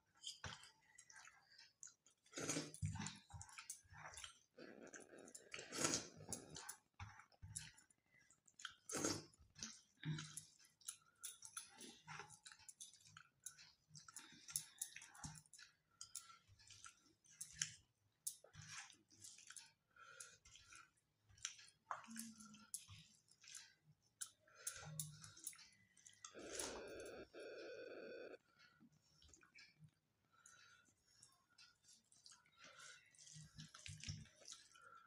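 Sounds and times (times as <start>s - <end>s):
chewing and wet mouth noises: 0.0s - 27.5s, 28.4s - 35.0s.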